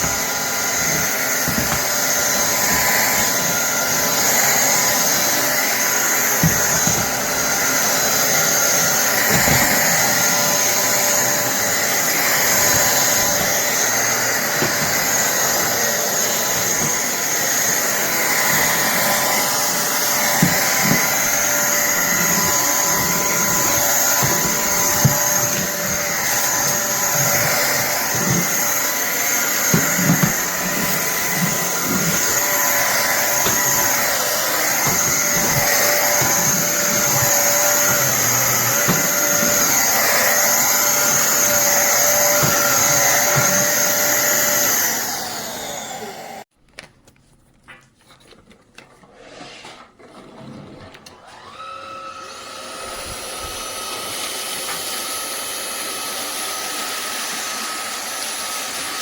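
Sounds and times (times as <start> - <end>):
stick vacuum motor whine: 0.0 - 46.5, 50.9 - 59.0.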